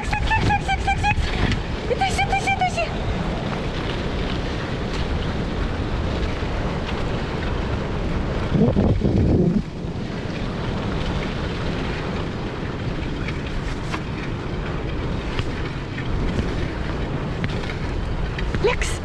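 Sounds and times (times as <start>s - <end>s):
wheel rolling on dirt road: 0.0s - 19.0s
wind buffeting microphone: 0.0s - 19.0s.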